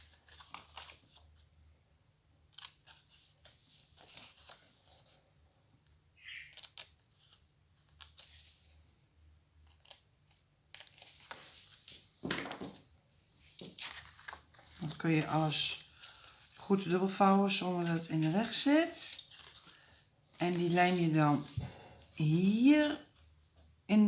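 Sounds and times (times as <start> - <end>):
paper handling: 0.0 - 1.5, 2.5 - 5.2, 6.5 - 8.8, 9.6 - 23.7.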